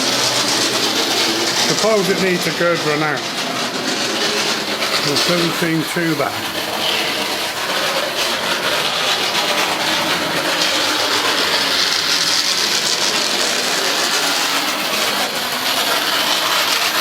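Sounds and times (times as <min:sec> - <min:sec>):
model locomotive whirring: 0:00.0 - 0:17.0.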